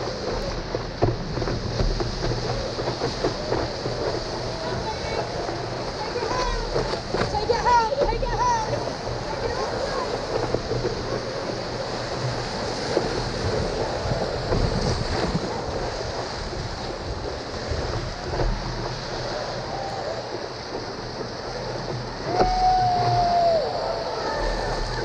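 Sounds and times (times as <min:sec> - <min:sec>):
whitewater rushing and hissing: 0:00.0 - 0:25.0
wind buffeting microphone: 0:00.0 - 0:25.0.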